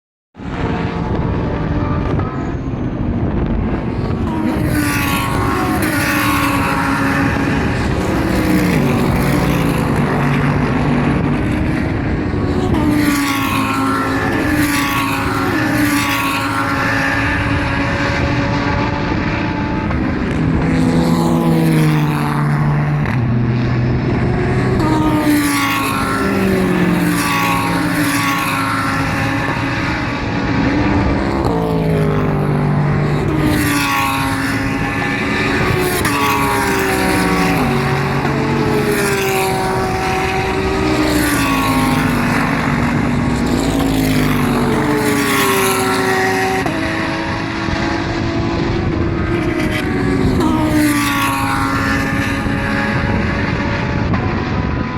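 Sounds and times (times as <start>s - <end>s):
race car engines shifting gears: 0.5s - 54.9s.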